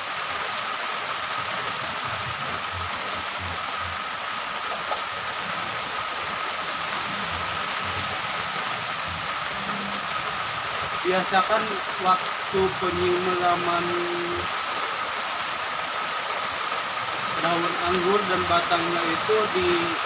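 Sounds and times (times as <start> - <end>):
rain on a plastic roof: 0.0 - 20.0.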